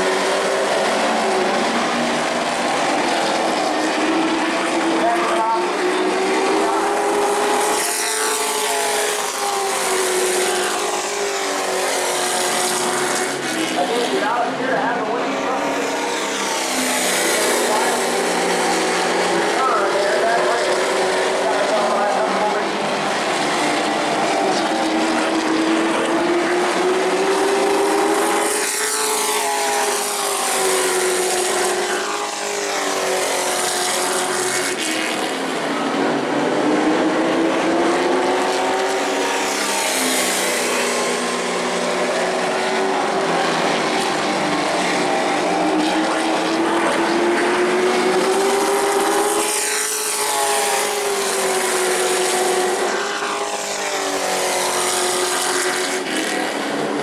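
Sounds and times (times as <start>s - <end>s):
race truck engines passing: 0.0s - 57.0s.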